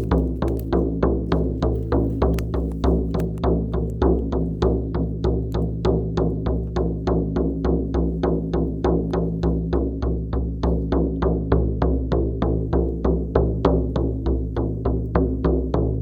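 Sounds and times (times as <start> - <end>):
frame drum beaten steadily: 0.0 - 16.0.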